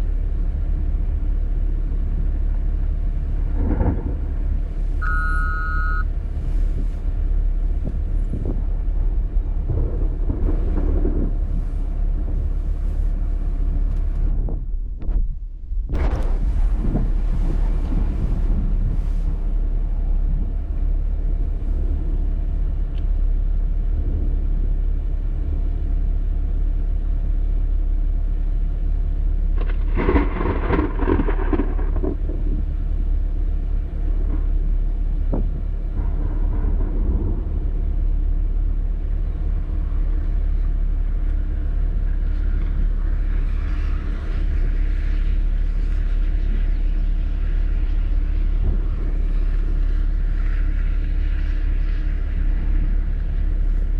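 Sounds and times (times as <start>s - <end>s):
low rumble: 0.0s - 53.9s.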